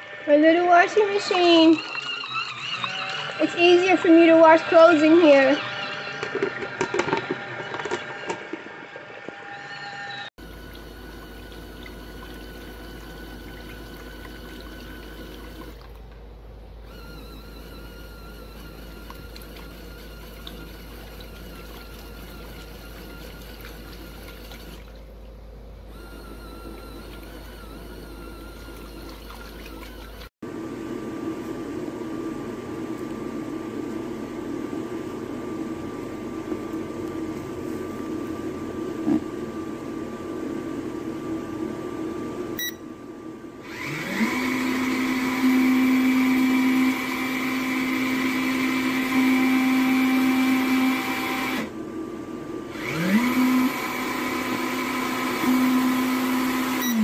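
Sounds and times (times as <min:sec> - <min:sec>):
washing machine motor whining: 0:00.0 - 0:57.0.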